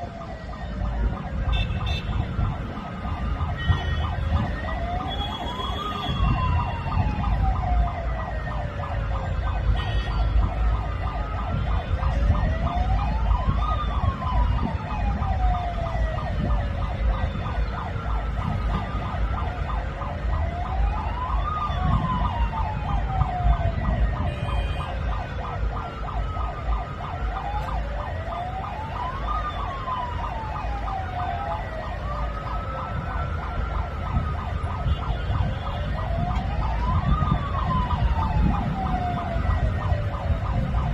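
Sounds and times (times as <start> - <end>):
sirens wailing: 0.0 - 40.9.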